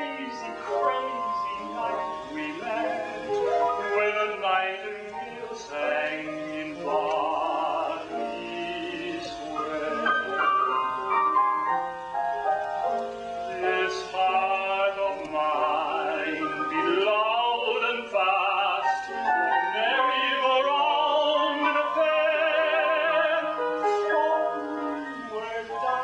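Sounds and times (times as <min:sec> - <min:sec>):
man singing classical ballad: 0:00.0 - 0:26.0
piano accompaniment: 0:00.0 - 0:26.0.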